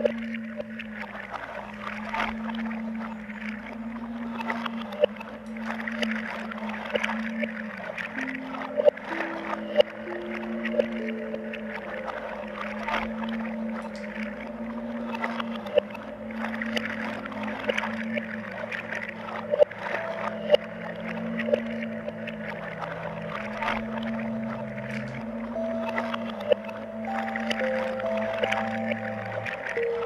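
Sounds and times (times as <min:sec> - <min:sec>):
low held electronic tones: 0:00.0 - 0:30.0
rustling watery noise texture: 0:00.0 - 0:30.0.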